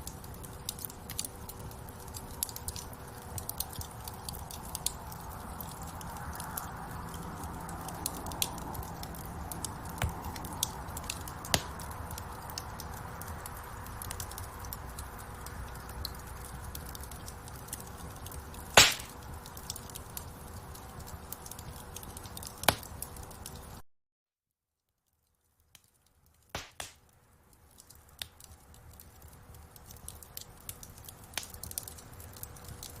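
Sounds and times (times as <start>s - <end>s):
wood fire crackling: 0.0s - 23.8s, 25.0s - 33.0s.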